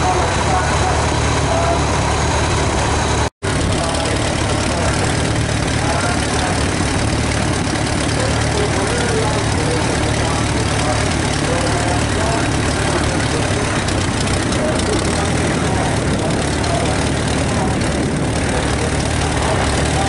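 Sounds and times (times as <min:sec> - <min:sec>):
faint crowd voices: 0:00.0 - 0:20.0
tractor engine idling: 0:00.0 - 0:20.0.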